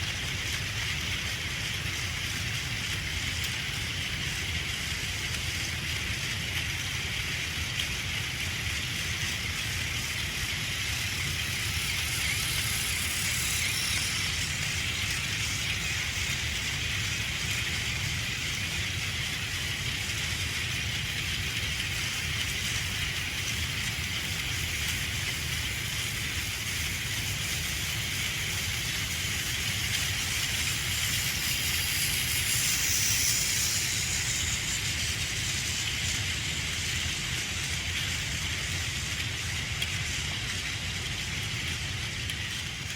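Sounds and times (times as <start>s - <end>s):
toy train motor whirring: 0.0s - 42.9s.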